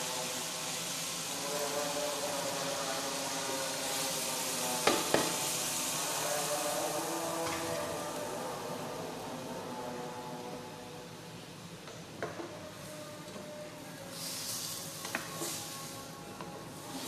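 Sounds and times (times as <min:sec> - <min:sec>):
food sizzling in a pot: 0:00.0 - 0:13.2, 0:13.8 - 0:17.0.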